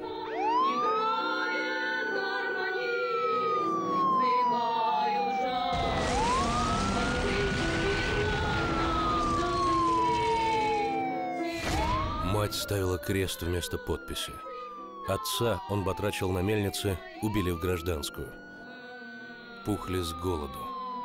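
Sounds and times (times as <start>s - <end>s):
air-raid siren wailing: 0.0s - 21.0s.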